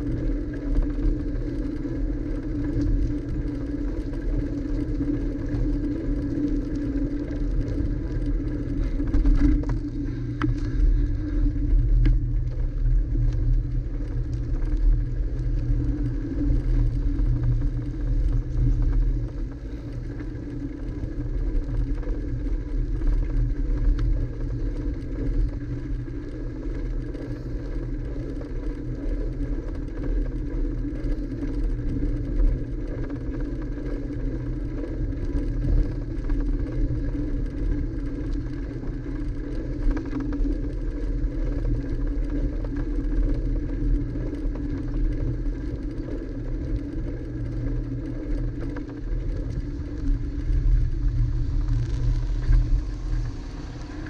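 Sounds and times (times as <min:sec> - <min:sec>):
bicycle tyre road noise: 0:00.0 - 0:54.0
wind on microphone: 0:00.0 - 0:54.0.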